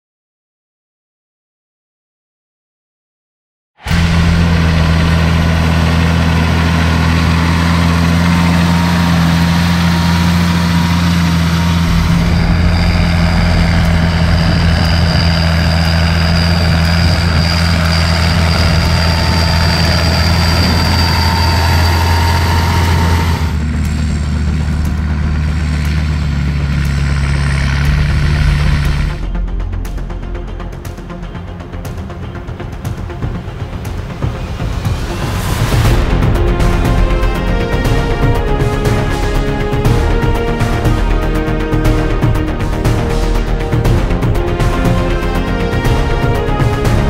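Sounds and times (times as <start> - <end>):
tractor diesel engine drone: 3.8 - 47.0.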